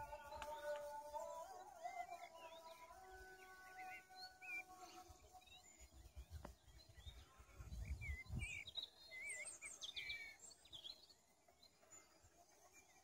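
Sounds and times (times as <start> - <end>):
songbirds chirping and warbling: 0.0 - 13.0.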